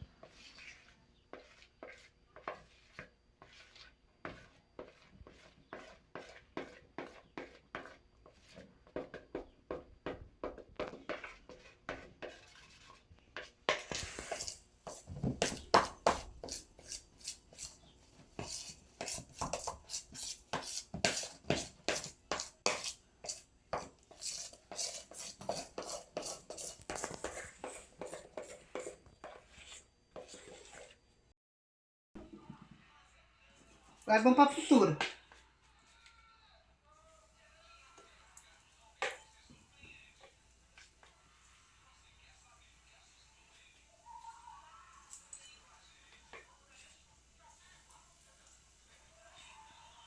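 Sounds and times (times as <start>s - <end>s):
spoon beating batter in bowl: 0.0s - 31.1s, 37.2s - 50.0s.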